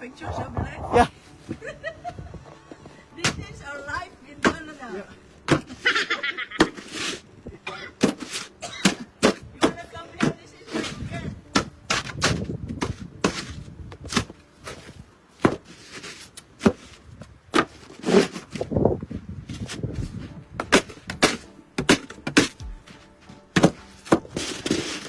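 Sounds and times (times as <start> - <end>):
snow shovel scraping pavement: 0.2 - 7.4, 8.0 - 25.0.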